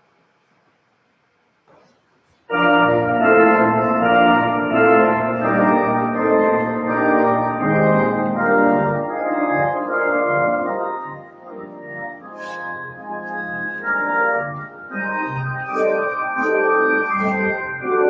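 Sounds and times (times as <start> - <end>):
church organ playing chords: 2.5 - 18.0.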